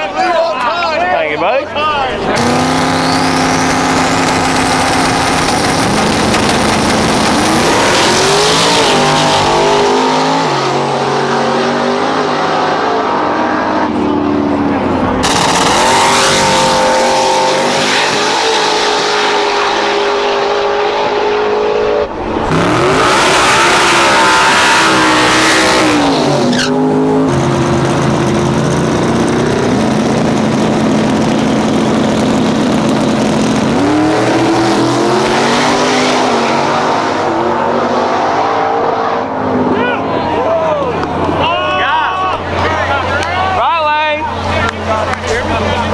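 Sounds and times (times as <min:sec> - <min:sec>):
race car engines running: 0:00.0 - 0:45.9
engine accelerating: 0:01.8 - 0:45.9.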